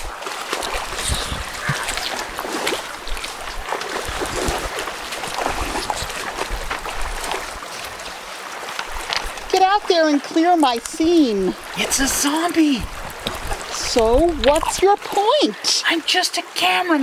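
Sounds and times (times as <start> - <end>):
river water running: 0.0 - 17.0
water splashing and rippling: 0.0 - 17.0.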